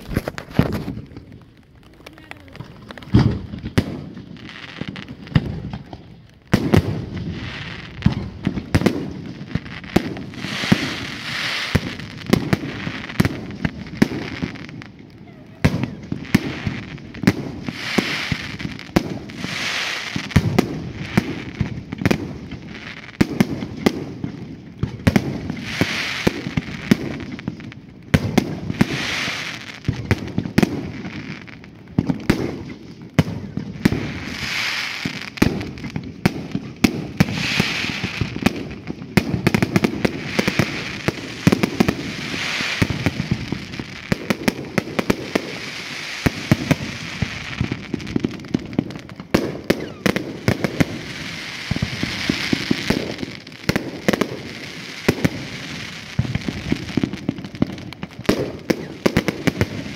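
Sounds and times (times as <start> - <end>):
fireworks bangs and cracks: 0.0 - 59.9
fireworks hiss: 1.9 - 15.0, 15.7 - 59.9.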